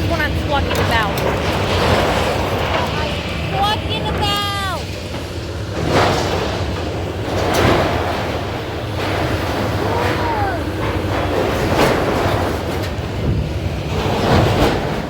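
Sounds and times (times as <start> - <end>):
heavy machinery rumbling: 0.0 - 15.0.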